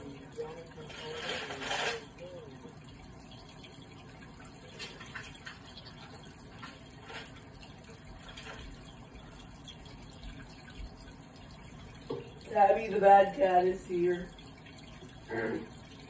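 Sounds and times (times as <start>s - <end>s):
microwave oven hum: 0.0s - 16.0s.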